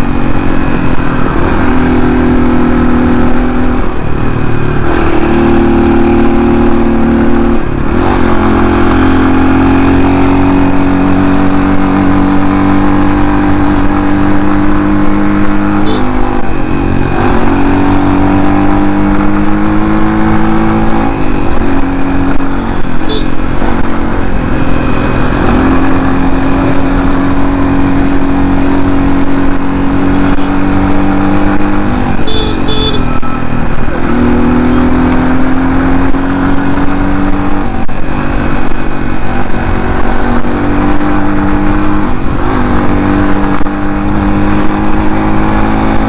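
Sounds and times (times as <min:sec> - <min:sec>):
motorcycle engine climbing with gear changes: 0:00.0 - 0:46.0.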